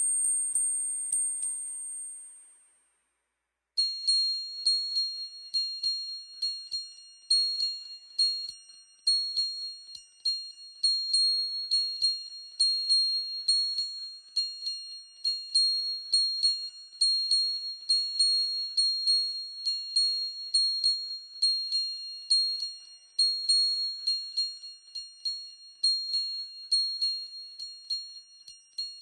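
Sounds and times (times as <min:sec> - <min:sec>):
high-pitched bell-like chimes: 0:00.0 - 0:02.9, 0:03.8 - 0:29.0.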